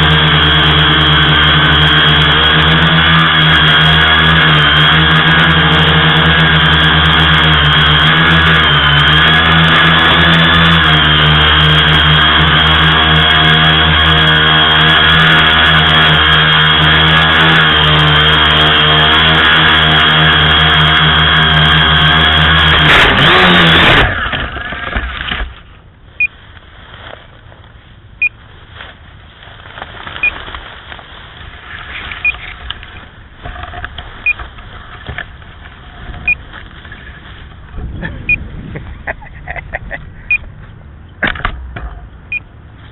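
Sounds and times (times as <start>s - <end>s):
drone motors whining: 0.0s - 26.4s, 31.4s - 42.9s.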